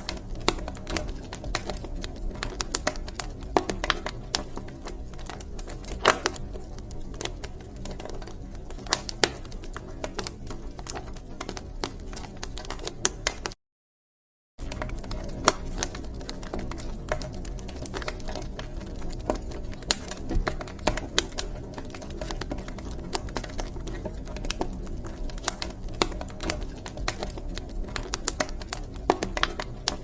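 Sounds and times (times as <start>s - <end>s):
wood fire crackling: 0.0s - 13.6s, 14.6s - 30.0s.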